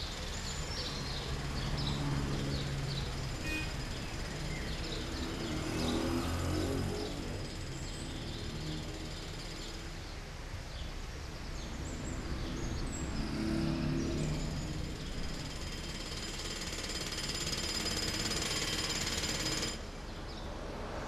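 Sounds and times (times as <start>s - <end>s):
distant traffic hum: 0.0s - 21.0s.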